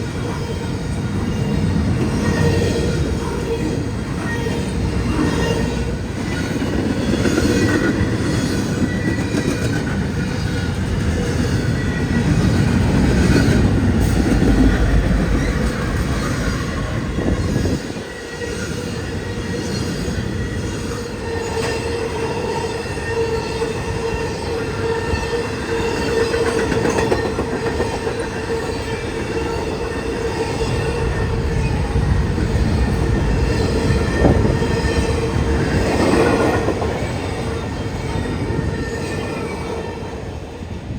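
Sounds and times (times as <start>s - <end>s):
train wheel squeal: 0.0s - 40.9s
train wheels rumbling on rails: 0.0s - 40.9s.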